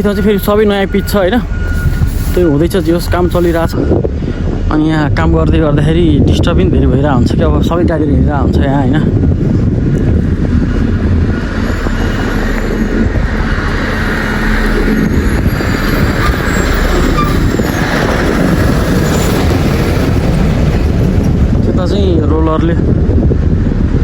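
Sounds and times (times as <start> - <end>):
heavy machinery diesel rumble: 0.0 - 24.0.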